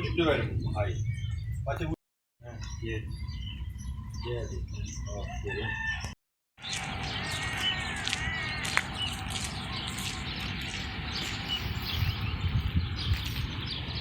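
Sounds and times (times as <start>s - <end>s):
outdoor background noise: 0.0s - 14.0s
small birds chirping: 0.0s - 14.0s.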